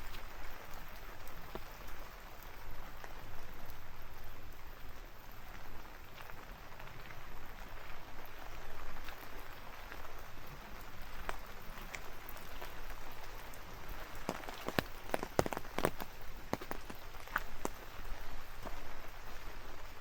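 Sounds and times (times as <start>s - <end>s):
heavy raindrops tapping: 0.0s - 20.0s
rainfall hissing: 0.0s - 20.0s.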